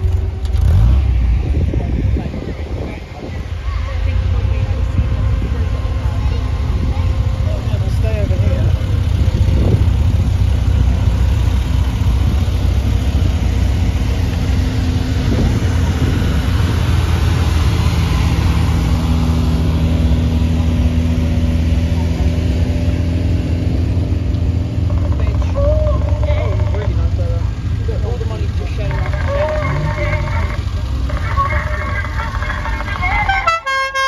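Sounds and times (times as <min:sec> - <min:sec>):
car engines idling: 0:00.0 - 0:34.0.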